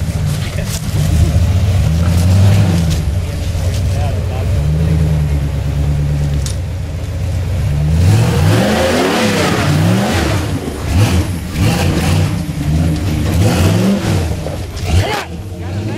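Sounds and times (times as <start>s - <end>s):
buggy engine revving: 0.0s - 15.9s.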